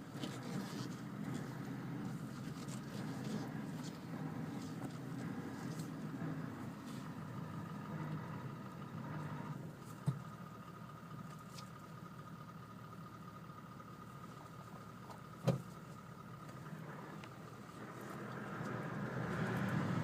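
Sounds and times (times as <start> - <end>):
thin steady whine: 0.0 - 20.0
vehicle engine running low: 0.0 - 20.0.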